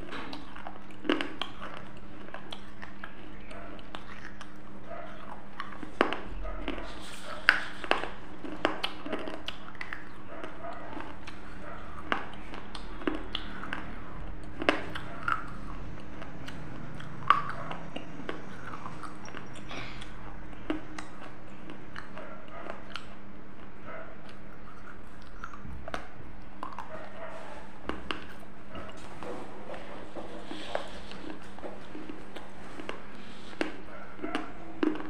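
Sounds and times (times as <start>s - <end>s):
crunching and chewing clay: 0.0s - 35.0s
faint hum: 0.0s - 35.0s.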